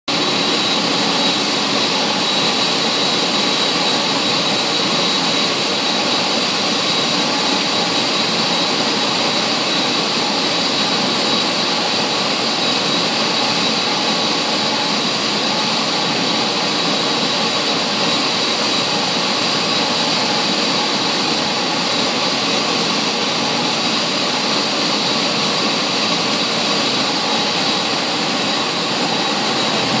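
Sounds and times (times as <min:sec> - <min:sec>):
jet engines with high whine: 0:00.1 - 0:30.0.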